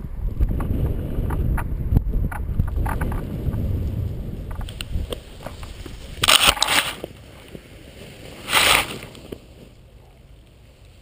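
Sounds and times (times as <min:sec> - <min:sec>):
grass rustling against camera: 0:00.2 - 0:11.0.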